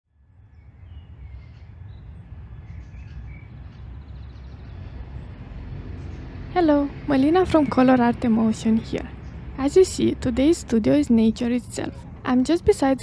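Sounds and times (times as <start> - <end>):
steady low rumble: 0.2 - 13.0.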